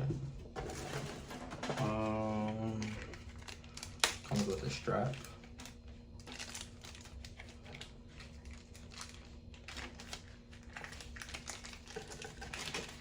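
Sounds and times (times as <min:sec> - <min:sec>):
packaging rustling and crinkling: 0:00.6 - 0:13.0.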